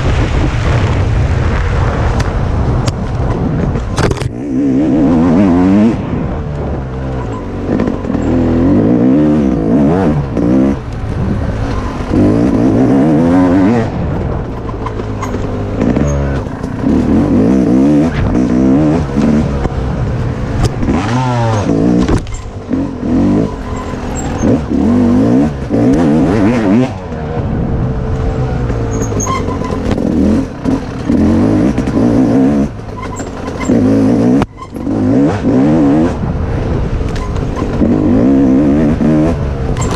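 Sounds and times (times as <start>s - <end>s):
dirt bike engine revving: 3.8s - 39.9s.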